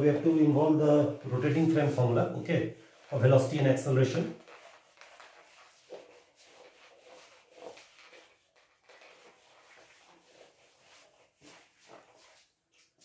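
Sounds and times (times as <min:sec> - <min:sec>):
duster rubbing on whiteboard: 0:00.0 - 0:02.3, 0:03.0 - 0:13.0.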